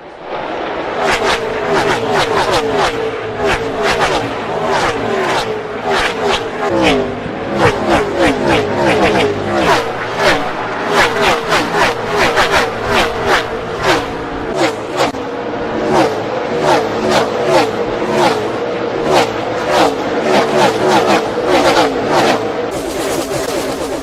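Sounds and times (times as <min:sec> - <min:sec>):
race cars passing at full throttle: 0:00.0 - 0:24.0.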